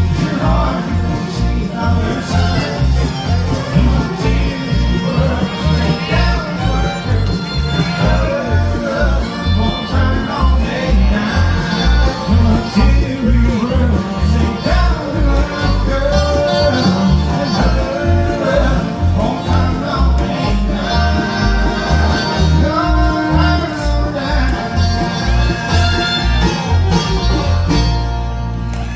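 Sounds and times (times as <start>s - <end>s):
banjo: 0.0s - 28.9s
bouncing bass line: 0.0s - 28.9s
guitar: 0.0s - 28.9s.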